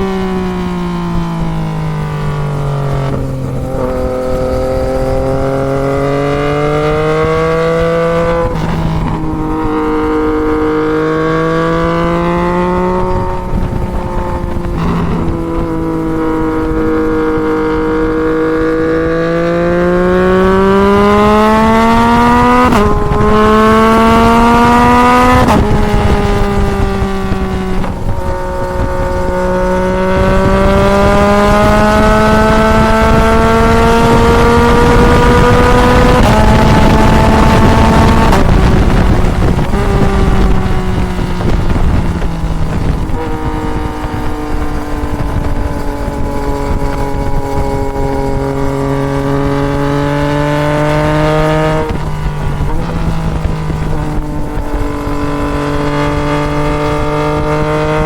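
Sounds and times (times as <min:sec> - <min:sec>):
motorcycle engine: 0:00.0 - 0:58.0
wind rush: 0:00.0 - 0:58.0.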